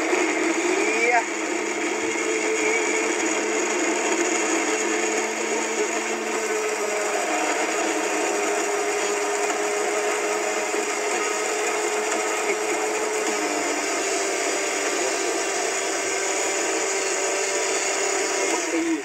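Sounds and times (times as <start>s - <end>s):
electric blender running: 0.0s - 19.0s.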